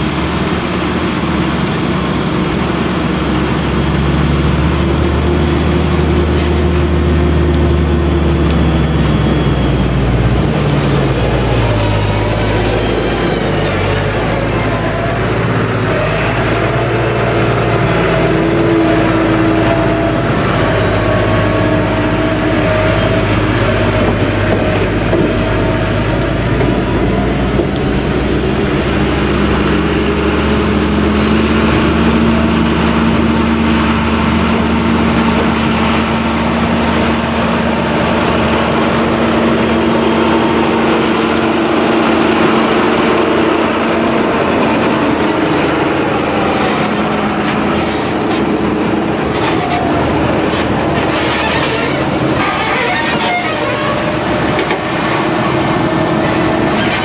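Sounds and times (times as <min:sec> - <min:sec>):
diesel tractor engines running: 0:00.0 - 0:57.0
second tractor engine higher tone: 0:00.0 - 0:57.0.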